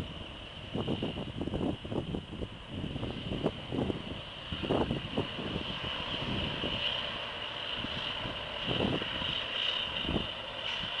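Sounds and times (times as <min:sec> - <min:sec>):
steady high whine: 0:00.0 - 0:11.0
wind buffeting microphone: 0:00.0 - 0:11.0.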